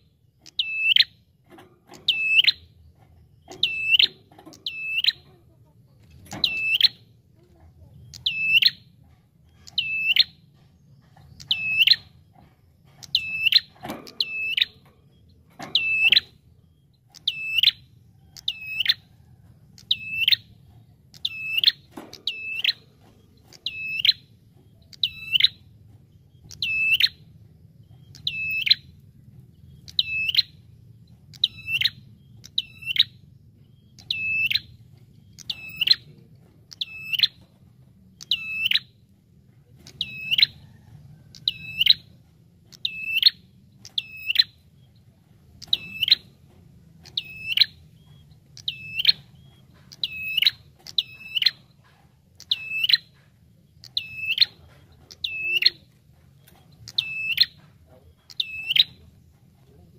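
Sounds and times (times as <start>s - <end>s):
bird chirping calls: 0.0s - 59.9s
faint low hum: 0.0s - 59.9s.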